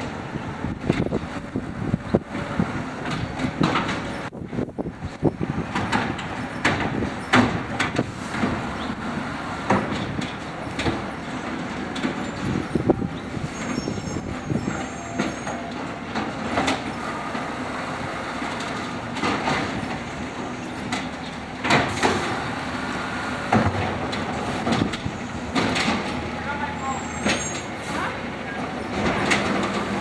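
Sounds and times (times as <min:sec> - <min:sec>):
garbage truck engine idling: 0:00.1 - 0:30.0.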